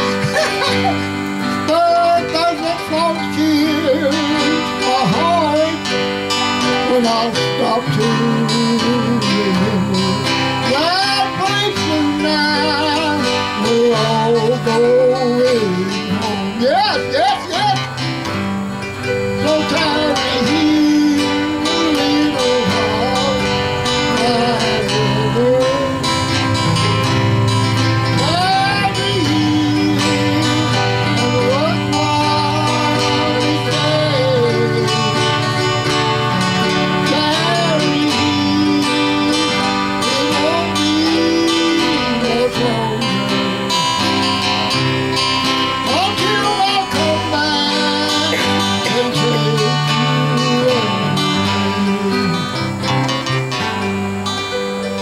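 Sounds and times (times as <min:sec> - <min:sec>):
acoustic guitar strumming: 0:00.0 - 0:55.0
bass line: 0:00.0 - 0:55.0
sliding lead melody: 0:00.0 - 0:55.0.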